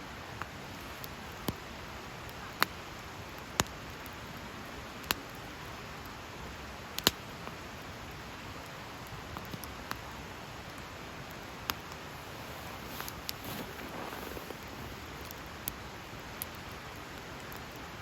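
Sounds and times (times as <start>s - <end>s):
wood fire crackling: 0.3s - 18.0s.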